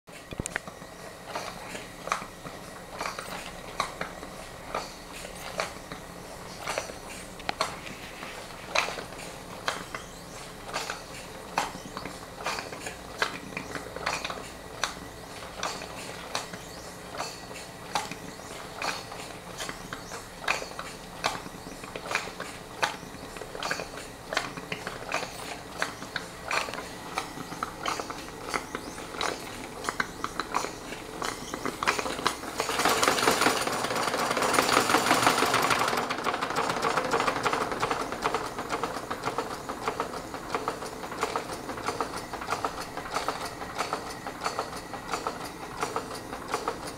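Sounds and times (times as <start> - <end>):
model steam engine beating: 0.8 - 46.9.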